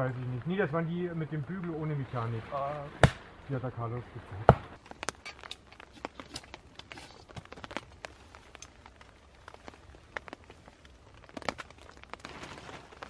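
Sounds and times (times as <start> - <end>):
raindrops ticking on a tarp: 0.0 - 13.0.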